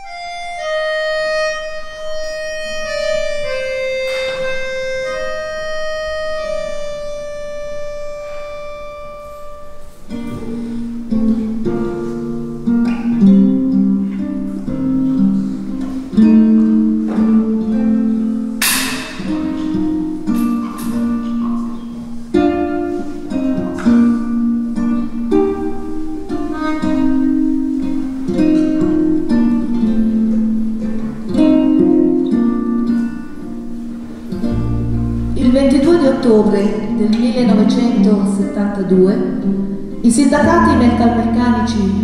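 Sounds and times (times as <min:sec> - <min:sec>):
accordion slow melody: 0:00.0 - 0:42.0
acoustic guitar plucking: 0:00.0 - 0:42.0.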